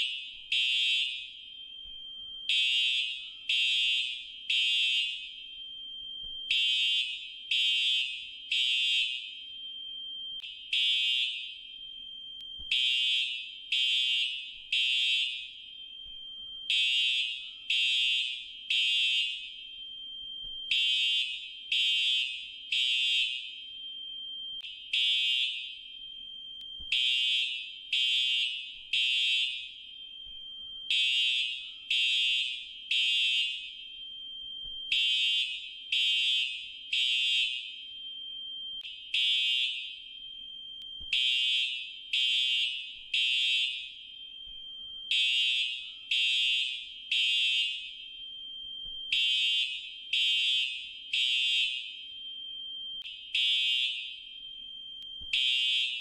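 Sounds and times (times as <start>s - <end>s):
fire alarm beeping: 0.0s - 56.0s.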